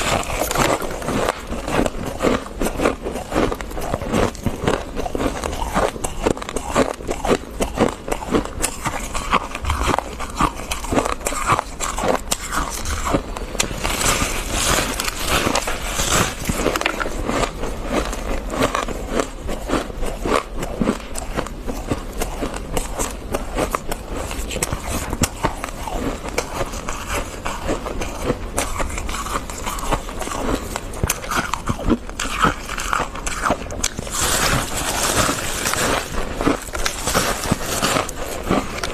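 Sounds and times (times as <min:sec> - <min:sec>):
crunching and chewing frost: 0:00.0 - 0:38.9.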